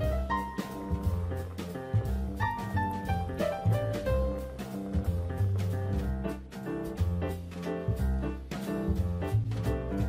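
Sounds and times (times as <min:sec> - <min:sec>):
jazz music with bass line: 0:00.0 - 0:10.0.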